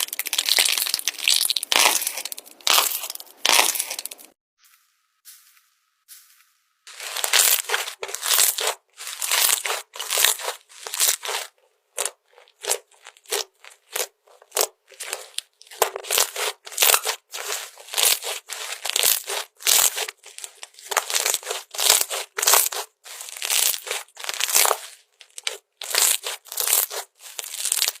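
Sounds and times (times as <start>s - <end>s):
slime squishing and crackling: 0.0s - 4.4s, 6.9s - 28.0s.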